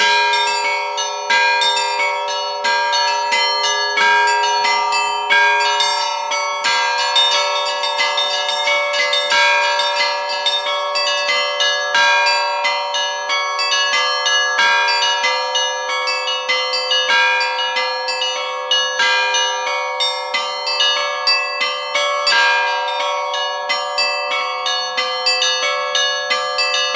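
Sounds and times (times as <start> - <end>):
church bells pealing: 0.0 - 26.9.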